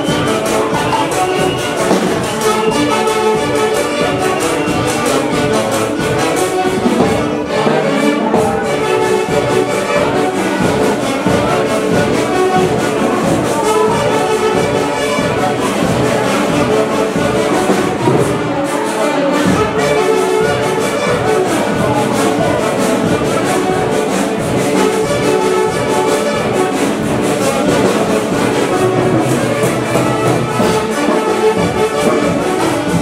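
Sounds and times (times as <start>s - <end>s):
horns playing melody: 0.0s - 33.0s
live band playing dance music: 0.0s - 33.0s.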